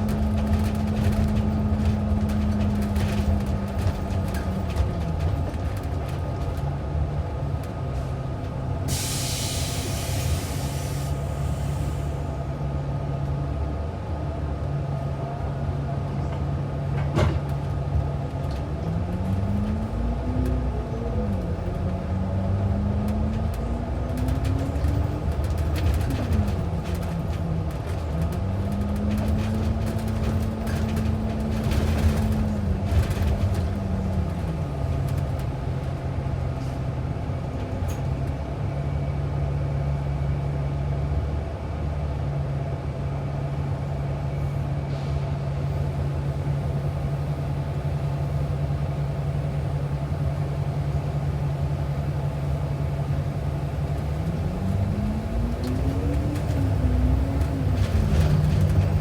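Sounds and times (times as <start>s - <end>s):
bus engine hum: 0.0s - 59.0s
road rumble: 0.0s - 59.0s.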